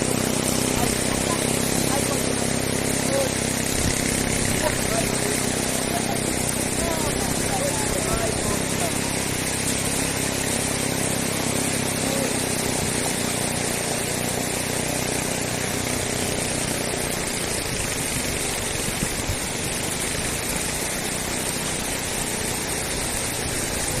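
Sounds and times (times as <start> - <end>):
motor engine humming: 0.0 - 24.0
steady rushing hiss: 0.0 - 24.0.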